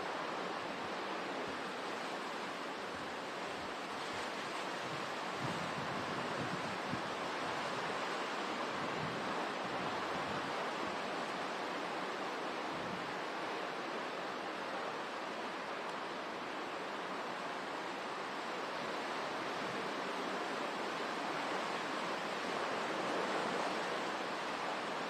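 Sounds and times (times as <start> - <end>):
hurricane wind: 0.0 - 25.0.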